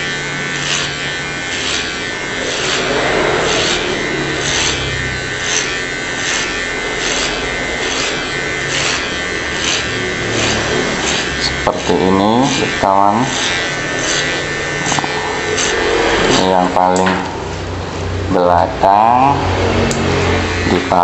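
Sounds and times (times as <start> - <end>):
clipper rasping through hair: 0.0 - 17.4
hair clipper buzzing: 0.0 - 21.0.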